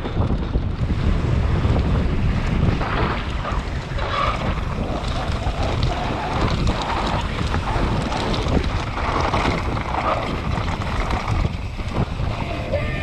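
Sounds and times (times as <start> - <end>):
bike clicks and rattles: 0.0 - 12.6
tyres rumbling on gravel: 0.0 - 13.0
wind buffeting microphone: 0.0 - 13.0.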